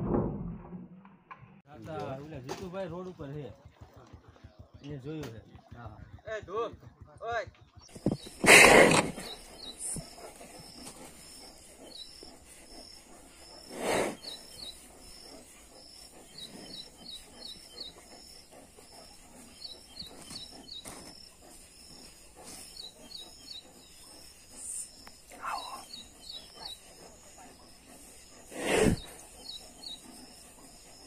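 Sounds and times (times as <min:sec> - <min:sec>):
small bird chirping: 0:03.2 - 0:31.0.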